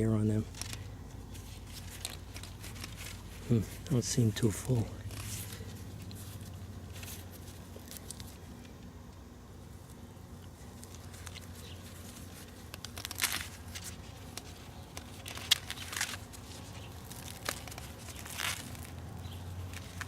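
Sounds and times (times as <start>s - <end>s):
corn leaves rustling and tearing: 0.0s - 8.8s, 9.5s - 20.0s.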